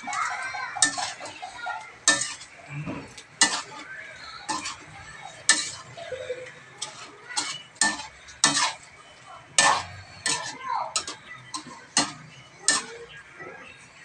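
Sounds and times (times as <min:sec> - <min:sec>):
low sizzle of frying: 0:00.0 - 0:14.0
metal spatula scraping wok: 0:00.0 - 0:14.0.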